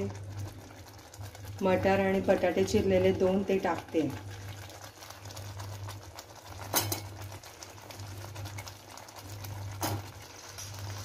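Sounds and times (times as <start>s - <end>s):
faint cooking crackle: 0.0s - 11.0s
low steady hum: 0.0s - 11.0s.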